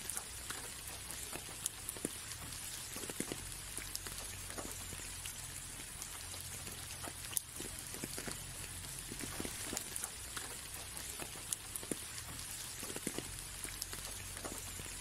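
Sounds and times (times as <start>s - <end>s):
light rain on a window: 0.0s - 15.0s
raindrops ticking: 0.0s - 15.0s.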